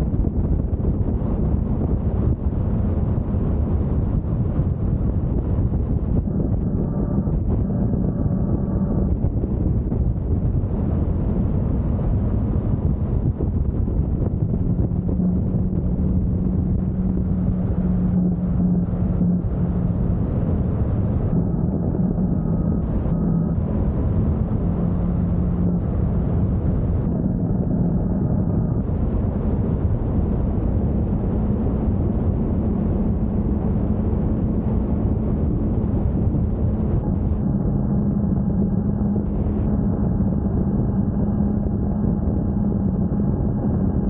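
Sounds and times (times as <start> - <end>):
wind noise: 0.0 - 44.0.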